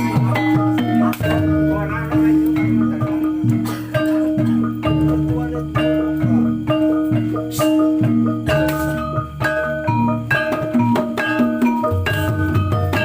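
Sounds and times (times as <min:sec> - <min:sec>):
metallophone notes struck: 0:00.0 - 0:13.0
steady held tone: 0:00.0 - 0:13.0.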